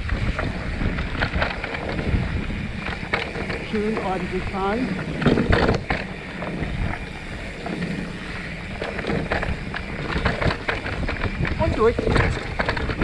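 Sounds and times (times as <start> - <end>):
bike clattering over bumps: 0.0 - 13.0
tyres rumbling on dirt: 0.0 - 13.0
wind on microphone: 0.0 - 13.0.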